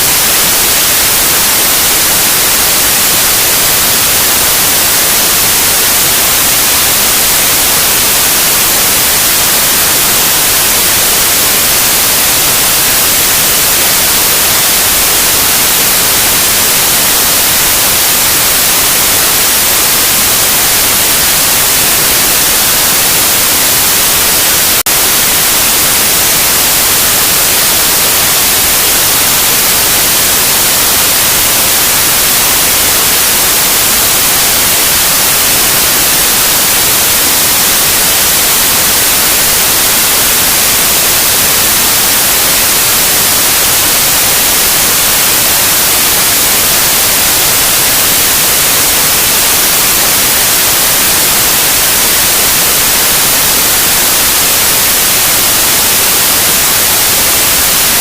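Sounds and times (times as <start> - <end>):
loud white noise hiss: 0.0 - 58.0.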